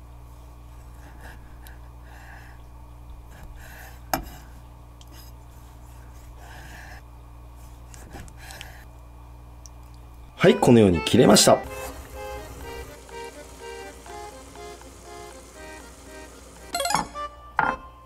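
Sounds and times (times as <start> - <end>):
steady low hum: 0.0 - 10.5, 11.1 - 16.8.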